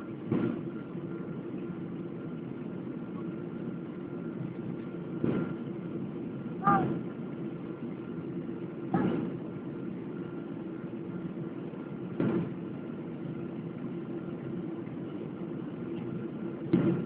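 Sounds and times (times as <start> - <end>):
airliner cabin engine hum: 0.0 - 17.0.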